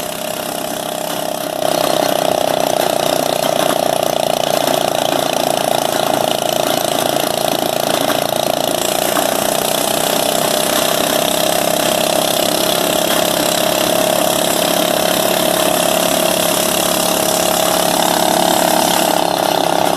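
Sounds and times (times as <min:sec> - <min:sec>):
riding mower engine running: 0:00.0 - 0:19.9.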